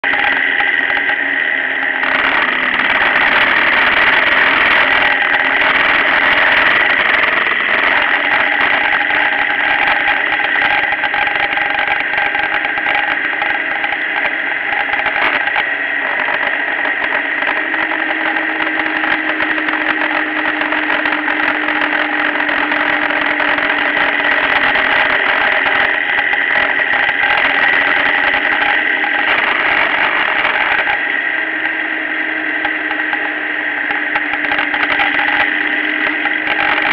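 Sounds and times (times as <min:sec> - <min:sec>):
motorcycle engine at speed: 0:00.0 - 0:36.9
wind and road noise: 0:00.0 - 0:36.9.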